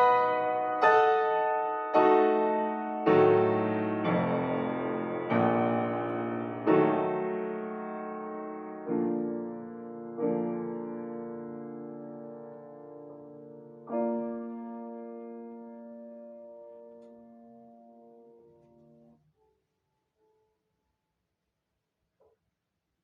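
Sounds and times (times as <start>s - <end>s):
slow piano chords: 0.0s - 19.2s.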